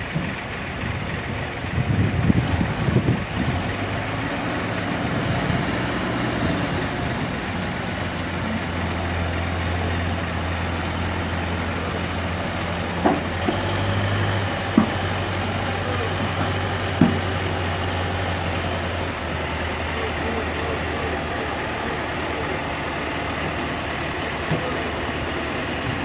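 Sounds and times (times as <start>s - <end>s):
diesel engine droning under load: 0.0s - 26.0s.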